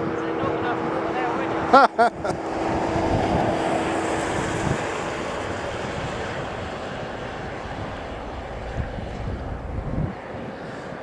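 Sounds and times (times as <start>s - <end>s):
truck engine and pump running: 0.0s - 10.9s
hum: 0.7s - 10.4s.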